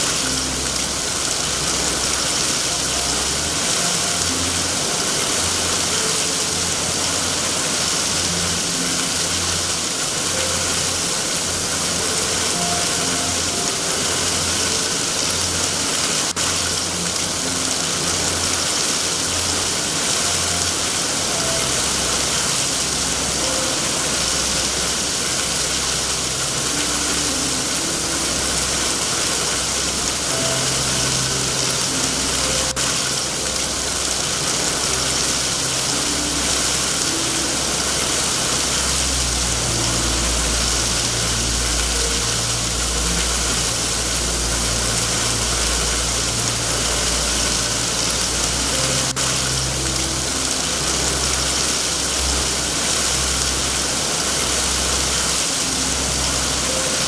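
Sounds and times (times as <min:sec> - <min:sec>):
low uneven rumble: 0:00.0 - 0:57.0
steady rain hissing: 0:00.0 - 0:57.0.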